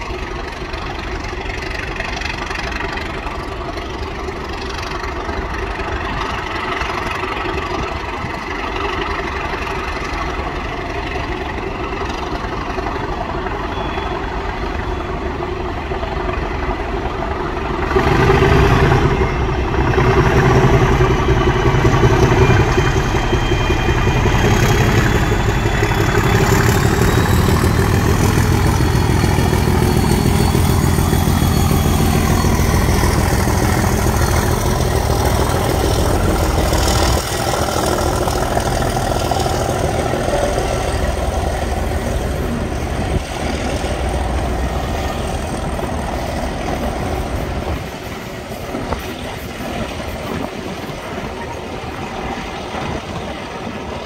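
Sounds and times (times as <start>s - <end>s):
locomotive whistle: 0.0s - 47.3s
diesel locomotive throbbing: 0.0s - 54.0s
train coaches rolling by: 0.0s - 54.0s.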